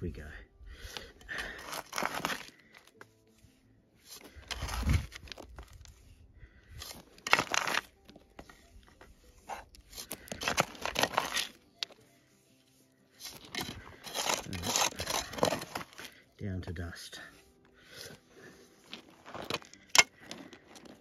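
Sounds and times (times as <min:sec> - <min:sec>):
soil and gravel scraping: 0:00.0 - 0:21.0.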